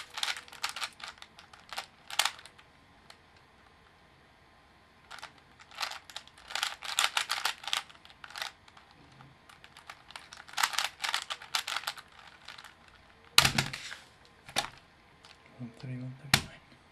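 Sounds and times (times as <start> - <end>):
puzzle cube plastic clicking: 0.0 - 3.5, 5.0 - 15.4.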